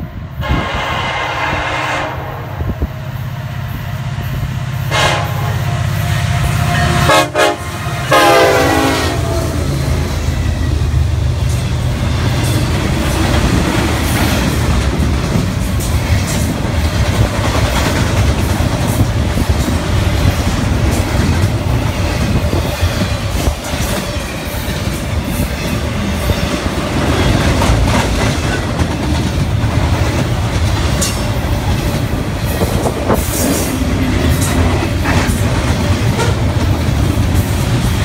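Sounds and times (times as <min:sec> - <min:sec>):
freight train passing: 0:00.0 - 0:38.0.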